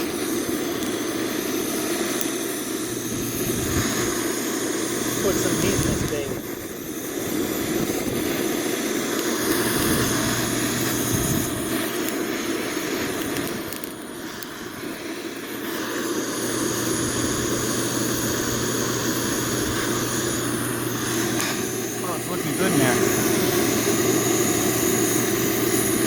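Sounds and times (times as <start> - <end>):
gas torch flame roaring: 0.0 - 26.0.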